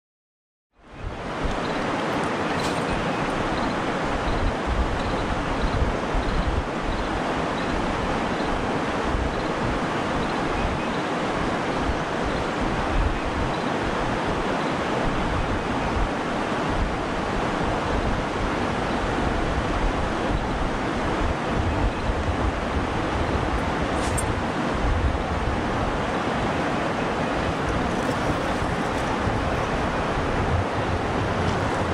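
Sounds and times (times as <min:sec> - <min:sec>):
river water over rocks: 0:00.9 - 0:31.9
wind buffeting microphone: 0:01.0 - 0:31.9.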